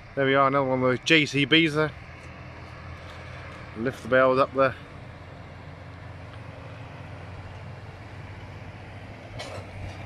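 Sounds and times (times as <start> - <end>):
diesel tractor running: 0.0 - 10.0.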